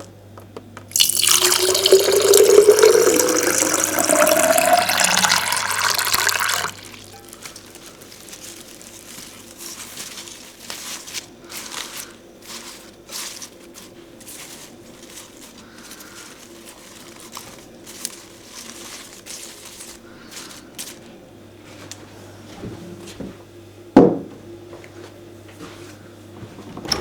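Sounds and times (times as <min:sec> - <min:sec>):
crinkling and rustling: 0:02.5 - 0:23.4, 0:24.8 - 0:27.0.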